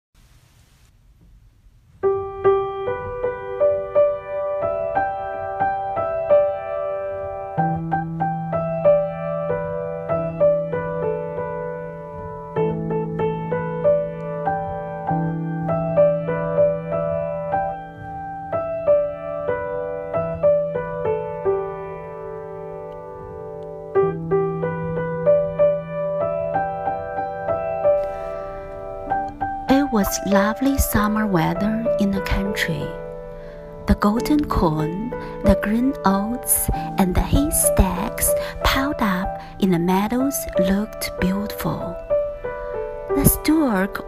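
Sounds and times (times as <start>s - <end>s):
solo piano: 0.2s - 44.0s.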